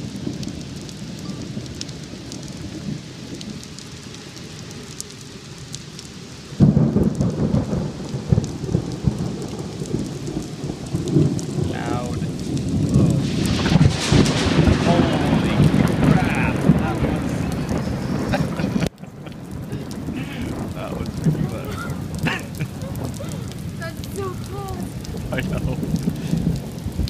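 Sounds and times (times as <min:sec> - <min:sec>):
raindrop ticks: 0:00.0 - 0:27.0
steady rain: 0:00.0 - 0:27.0
thunder rumbling: 0:00.0 - 0:27.0.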